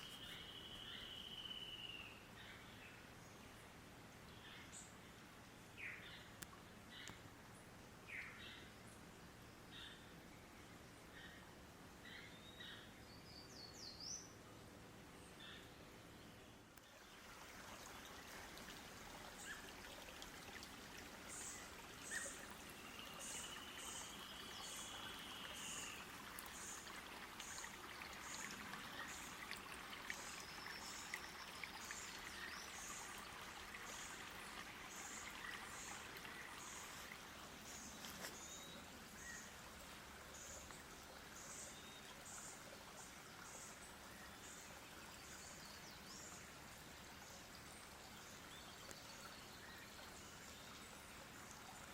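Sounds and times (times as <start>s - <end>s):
faint background hiss: 0.0s - 51.9s.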